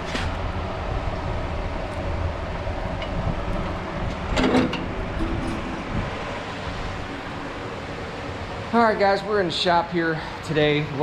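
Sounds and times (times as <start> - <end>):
wood fire burning in stove: 0.0 - 9.8.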